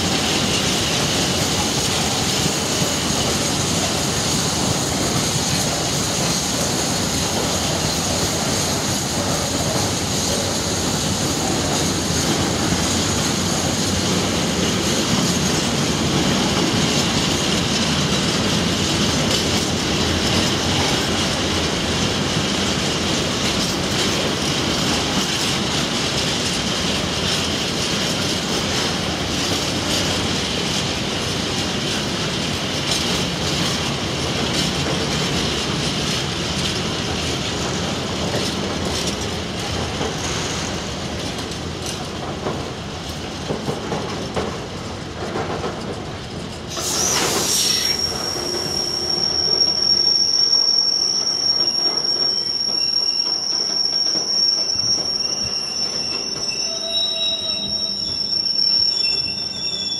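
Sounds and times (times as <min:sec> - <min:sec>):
high whine of wheels on rails: 0:00.0 - 0:59.9.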